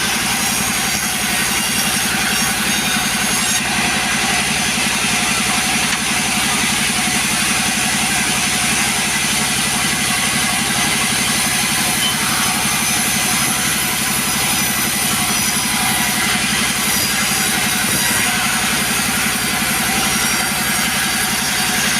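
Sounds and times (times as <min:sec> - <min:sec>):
two-stroke chainsaw running: 0:00.0 - 0:21.9.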